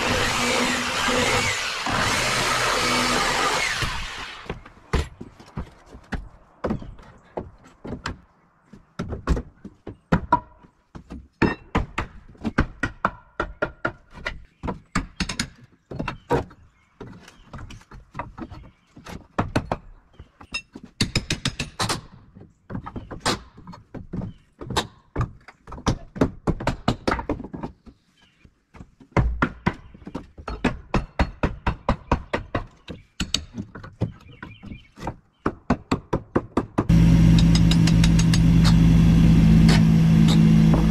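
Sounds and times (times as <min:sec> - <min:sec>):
knocks and thuds on wood: 0:03.6 - 0:28.0, 0:28.7 - 0:38.8.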